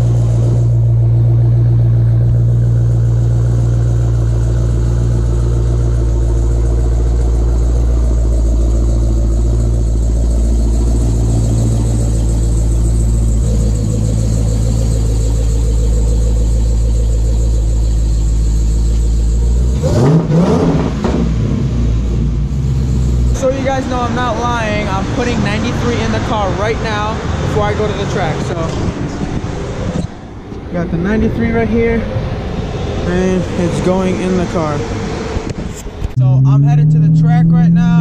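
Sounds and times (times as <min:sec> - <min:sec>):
car engine idling: 0:00.0 - 0:38.0
engine revving: 0:00.0 - 0:38.0.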